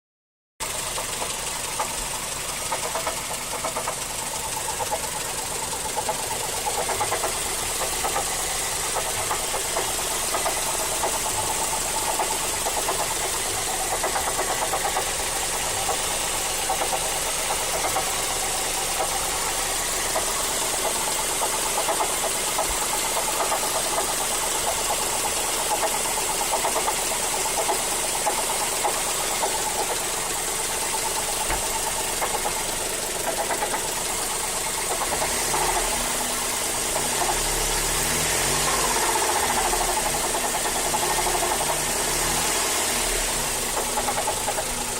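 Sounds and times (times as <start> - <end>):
car engine running: 0.6 - 44.9.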